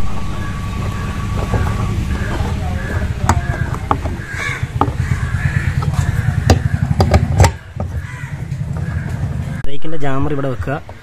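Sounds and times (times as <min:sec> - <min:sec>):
steady low rumble: 0:00.0 - 0:10.3
crows cawing: 0:00.3 - 0:09.6.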